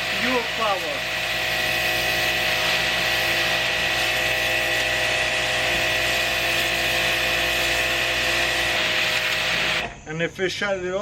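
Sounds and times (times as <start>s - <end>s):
water jet hissing: 0.0s - 9.9s
pressure washer motor whine: 0.0s - 10.3s.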